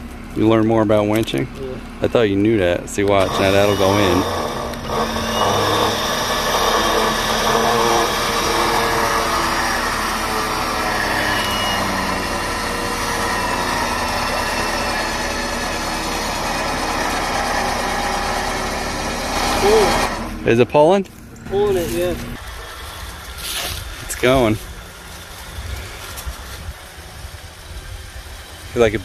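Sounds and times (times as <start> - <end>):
electric winch running under load: 1.8 - 20.6, 21.5 - 29.0.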